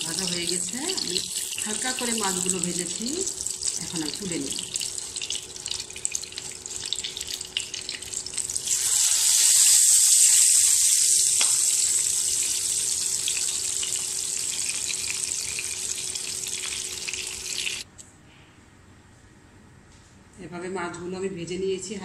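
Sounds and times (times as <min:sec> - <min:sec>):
fish sizzling in hot oil: 0:00.0 - 0:17.8.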